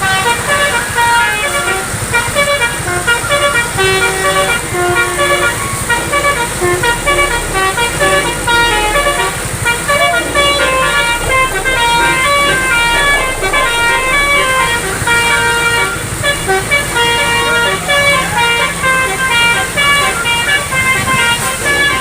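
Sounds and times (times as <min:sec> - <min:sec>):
bus engine running: 0:00.0 - 0:22.0
multi-tone bus air horn melody: 0:00.0 - 0:22.0.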